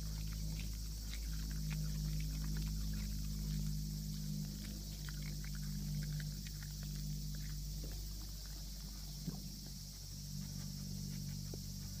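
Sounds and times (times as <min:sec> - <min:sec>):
cicada chorus buzzing: 0:00.0 - 0:12.0.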